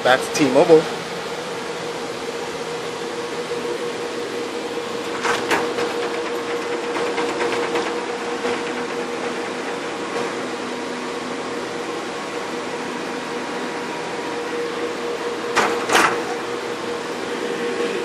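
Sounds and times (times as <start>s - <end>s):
constant hum tone: 0.0s - 18.0s
cooling fans whirring: 0.0s - 18.0s.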